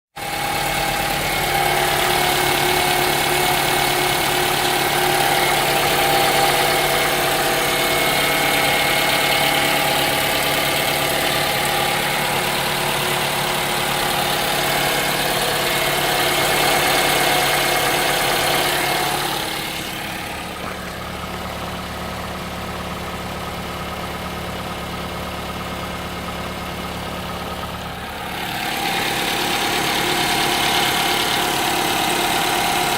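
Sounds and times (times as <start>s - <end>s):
car engine idling with knock: 0.2s - 32.9s.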